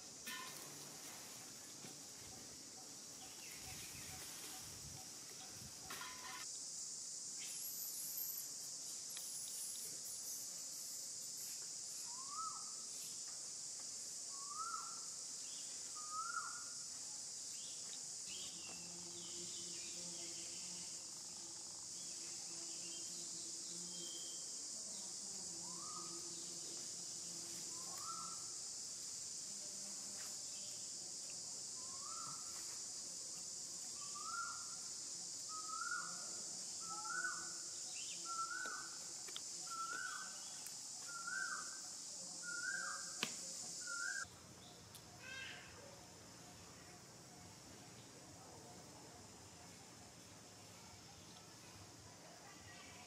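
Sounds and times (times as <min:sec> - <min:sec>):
insect chorus: 0:00.0 - 0:53.0.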